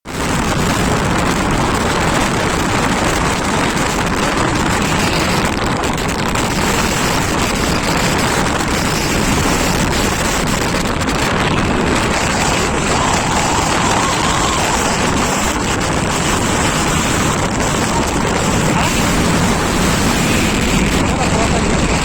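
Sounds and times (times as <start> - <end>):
moving vehicle running noise: 0.0 - 22.0
wind buffeting microphone: 0.0 - 22.0.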